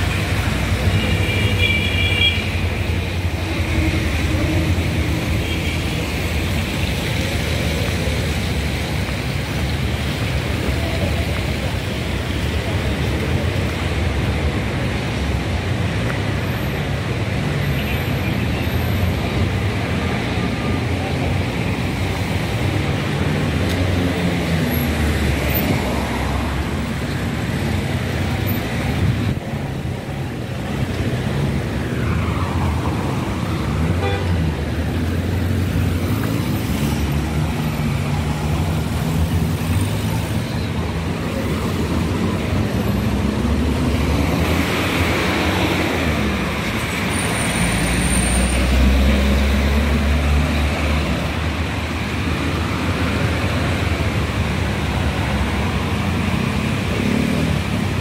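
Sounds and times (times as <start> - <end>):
cars and scooters driving past: 0.0 - 58.0
steady traffic hum: 0.0 - 58.0
heavy vehicle rumble: 2.4 - 58.0.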